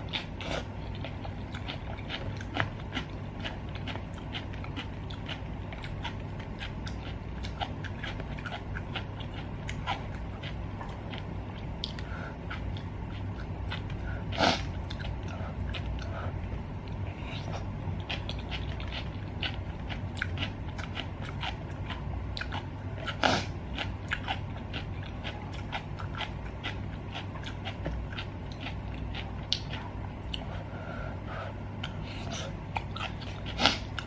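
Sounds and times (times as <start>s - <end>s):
wet chewing and mouth clicks: 0.0s - 30.6s, 31.8s - 34.0s
low steady hum: 0.0s - 34.0s.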